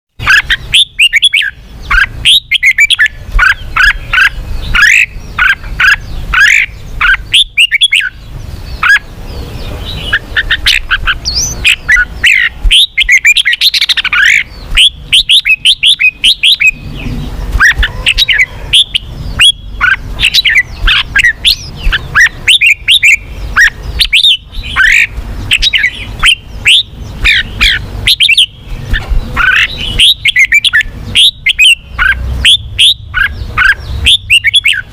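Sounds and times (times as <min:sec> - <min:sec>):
bird chirping song: 0:00.2 - 0:34.9.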